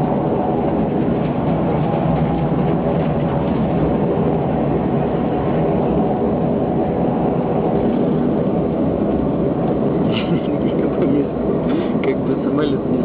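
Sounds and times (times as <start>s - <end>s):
aircraft engines droning in cabin: 0.0s - 13.0s.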